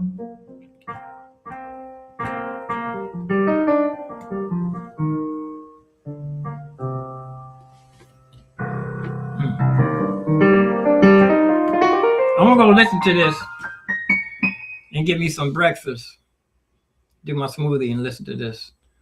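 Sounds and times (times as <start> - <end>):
piano chords and phrases: 0.0 - 15.9.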